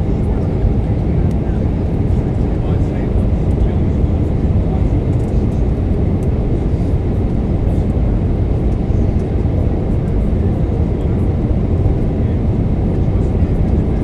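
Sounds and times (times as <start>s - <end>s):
airplane cabin drone: 0.0s - 14.0s.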